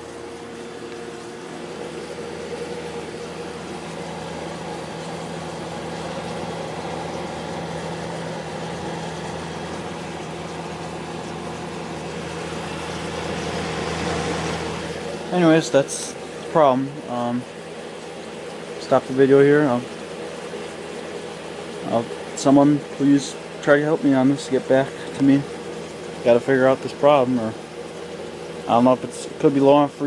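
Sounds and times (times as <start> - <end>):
dehumidifier fan humming: 0.0 - 30.0.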